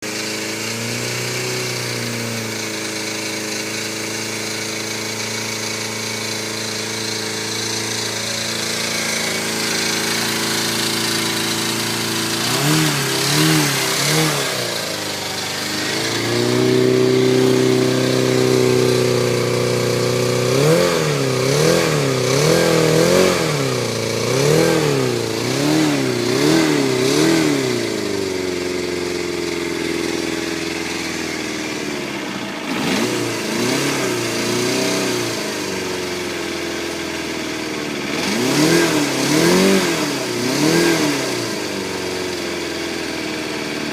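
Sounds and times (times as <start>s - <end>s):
motorcycle engine idling: 0.0s - 43.9s
motorcycle throttle blips: 4.8s - 41.6s.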